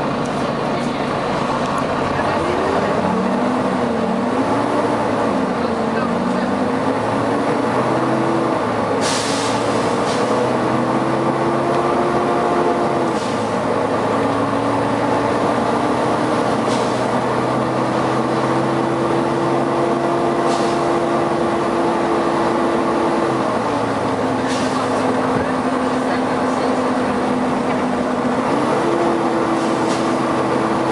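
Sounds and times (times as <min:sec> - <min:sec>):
bus engine and cooling fan: 0:00.0 - 0:30.9.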